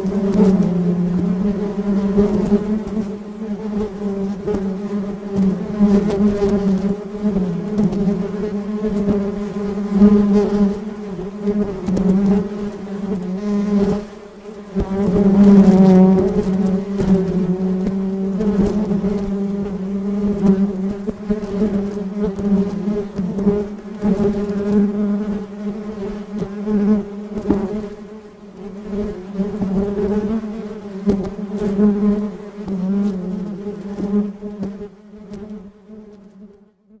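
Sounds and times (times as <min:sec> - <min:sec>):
bees buzzing: 0:00.0 - 0:36.4.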